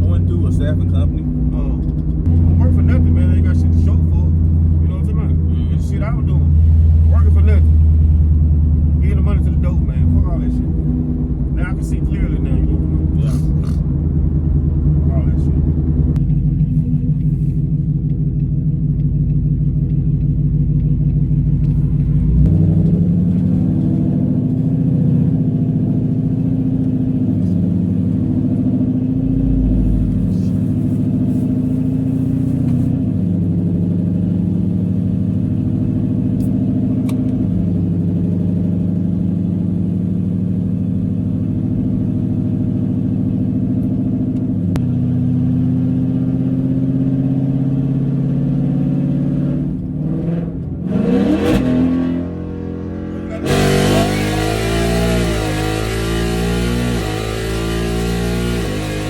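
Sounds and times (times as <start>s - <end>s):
loud car engine driving: 0.0s - 59.0s.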